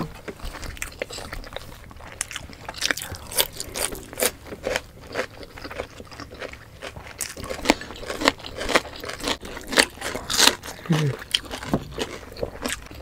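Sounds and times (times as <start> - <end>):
crunching of cucumber: 0.0 - 13.0
wet chewing: 0.0 - 13.0.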